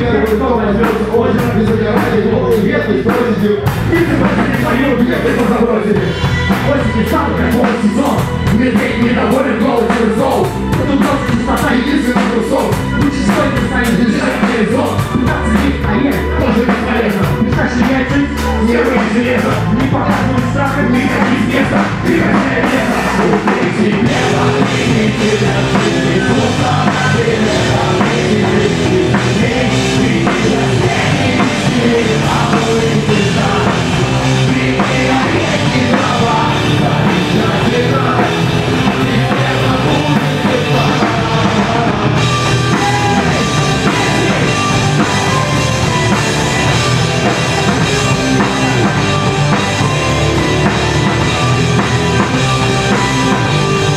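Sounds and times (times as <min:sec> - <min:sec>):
drum kit: 0:00.0 - 0:53.9
instrumental rock music: 0:00.0 - 0:53.9.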